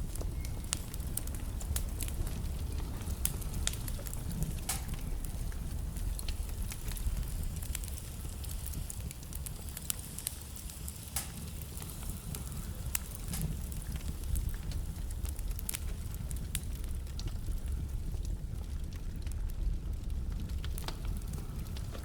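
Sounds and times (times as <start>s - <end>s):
sharp pops of fire: 0.0s - 17.7s
low rumble of flames: 0.0s - 22.0s
wood fire crackling: 0.0s - 22.0s.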